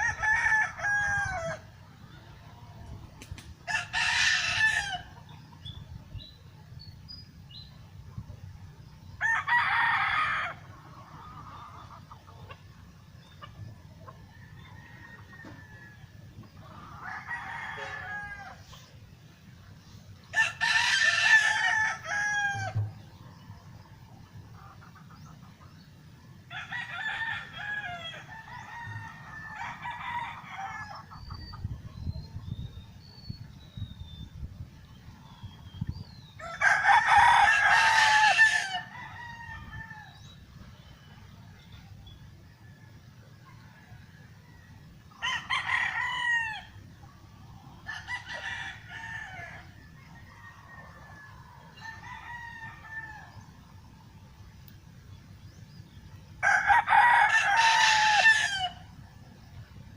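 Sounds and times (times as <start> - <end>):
roosters crowing: 0.0 - 7.7, 8.6 - 31.6, 34.9 - 59.9.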